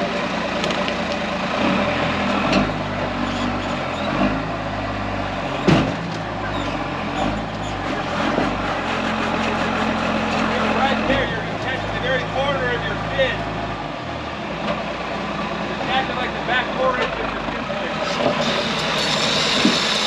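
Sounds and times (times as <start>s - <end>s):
truck engine at low revs: 0.0s - 20.0s.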